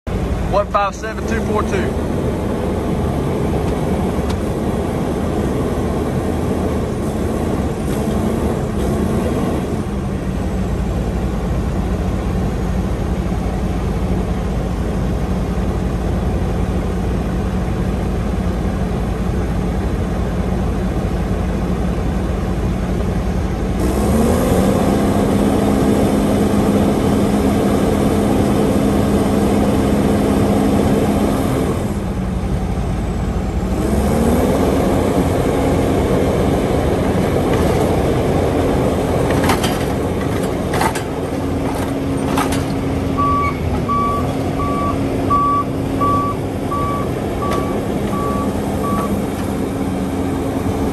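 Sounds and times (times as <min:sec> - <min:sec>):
diesel engine idling and revving: 0:00.0 - 0:50.9.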